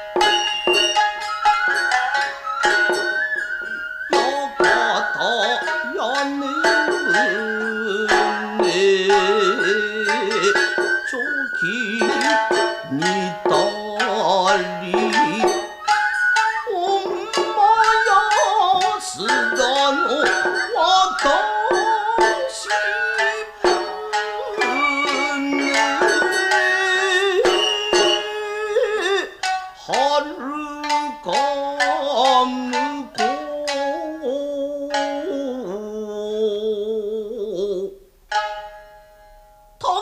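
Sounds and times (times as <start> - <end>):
high held melody line: 0.0 - 36.4
shamisen plucking: 0.0 - 40.0.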